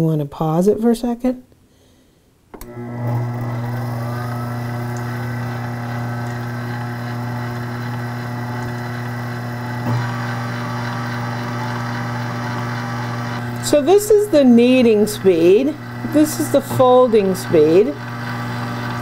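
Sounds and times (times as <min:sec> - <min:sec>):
stand mixer motor humming: 0:02.6 - 0:19.0.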